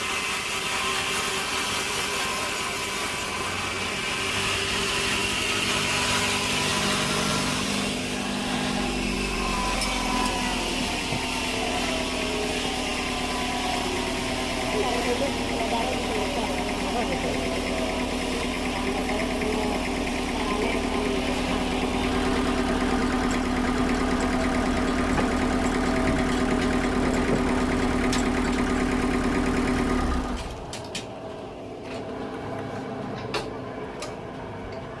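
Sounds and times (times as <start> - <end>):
sawmill machinery humming: 0.0 - 35.0.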